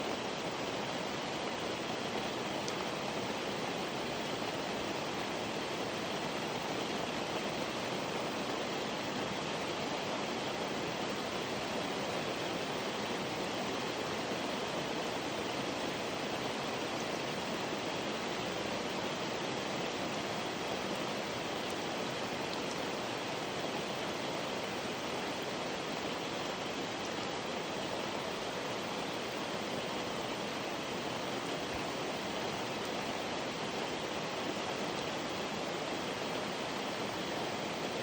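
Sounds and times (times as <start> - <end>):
steady rainfall: 0.0 - 38.0.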